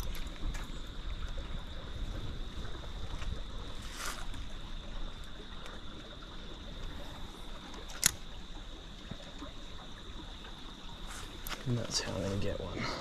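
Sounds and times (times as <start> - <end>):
creek trickling over rocks: 0.0 - 13.0.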